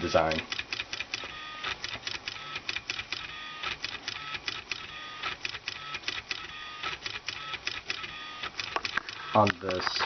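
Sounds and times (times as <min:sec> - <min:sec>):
stepper motors clicking and buzzing: 0:00.4 - 0:10.0.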